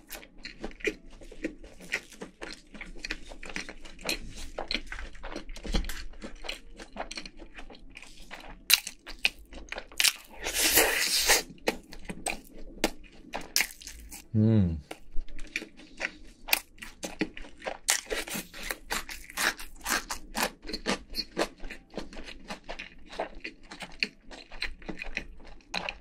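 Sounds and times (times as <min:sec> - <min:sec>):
chewing crispy chicken crunches: 0:00.0 - 0:14.3, 0:14.9 - 0:26.0.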